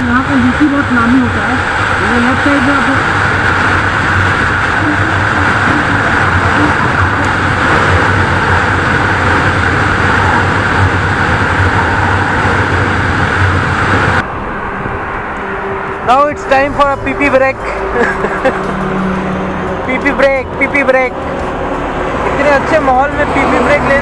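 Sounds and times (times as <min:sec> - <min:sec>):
motorcycle engine hum: 0:00.0 - 0:24.0
wind rush: 0:00.0 - 0:24.0.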